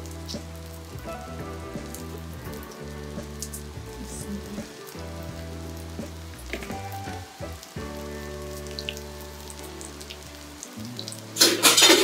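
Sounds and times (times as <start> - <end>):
background music with chords: 0.0 - 12.0
food sizzling in oil: 0.0 - 12.0.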